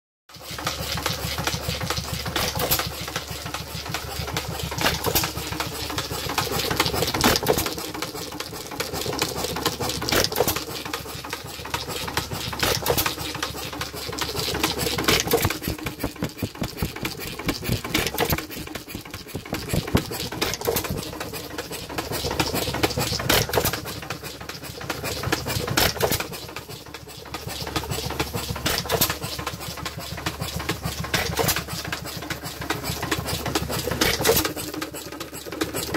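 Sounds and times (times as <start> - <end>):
hit-and-miss gas engine clattering: 0.3 - 35.9.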